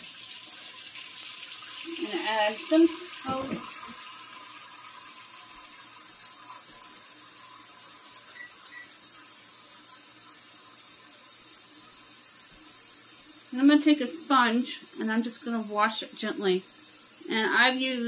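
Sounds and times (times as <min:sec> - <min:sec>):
faucet filling a pot: 0:00.0 - 0:18.0.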